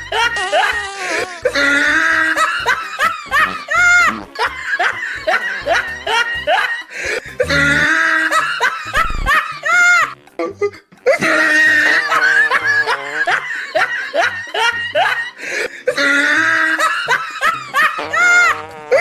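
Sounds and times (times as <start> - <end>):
person laughing in high bursts: 0.0 - 10.1, 11.0 - 19.0
music: 0.0 - 19.0.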